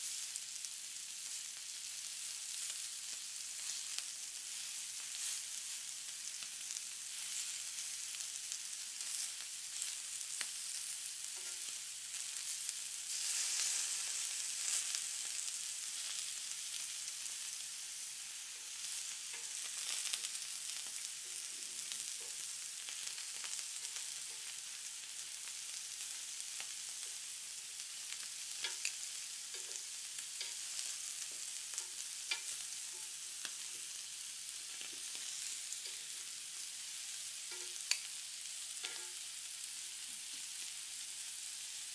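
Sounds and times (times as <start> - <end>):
meat sizzling on grill pan: 0.0 - 41.9.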